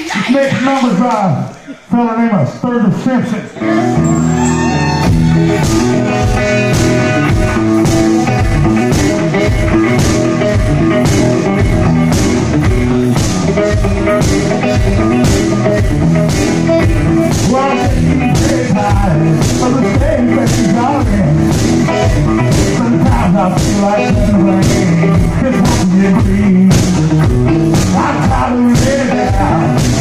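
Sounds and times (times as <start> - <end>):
electric guitar: 3.5 - 30.0
drum beat: 4.7 - 30.0.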